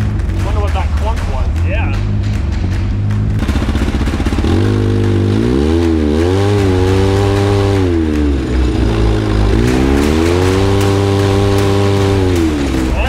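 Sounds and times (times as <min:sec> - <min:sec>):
mini truck engine revving: 0:00.0 - 0:13.0.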